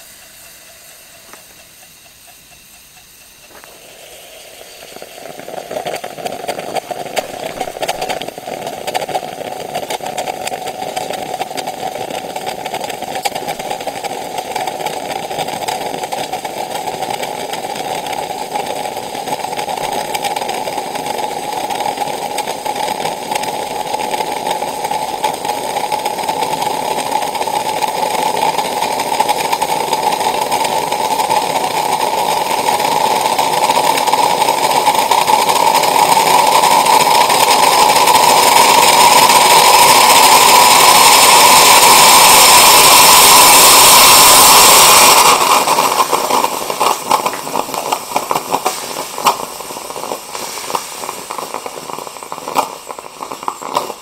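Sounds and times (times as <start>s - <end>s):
moka pot gurgling and hissing: 0.0s - 54.0s
coffee pot spitting: 3.1s - 54.0s.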